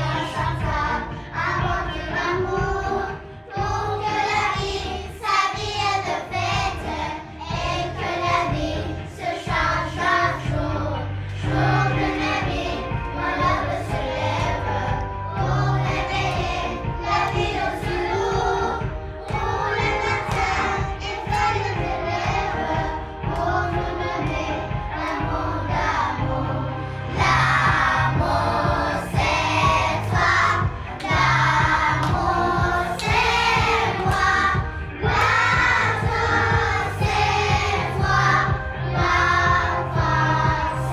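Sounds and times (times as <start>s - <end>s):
children singing: 0.0s - 40.9s
music with a steady beat: 0.0s - 40.9s.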